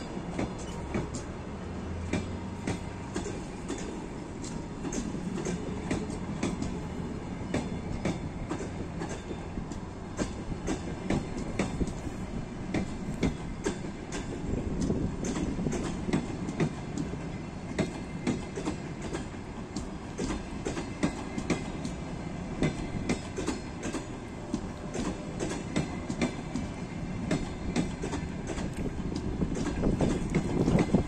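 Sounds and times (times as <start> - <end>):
train low rumble: 0.0 - 31.0
train wheels clacking over rail joints: 0.0 - 31.0.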